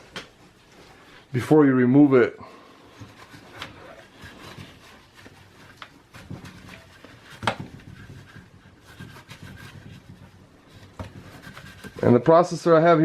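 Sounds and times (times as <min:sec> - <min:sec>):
paper towel rubbing: 0:00.0 - 0:13.0.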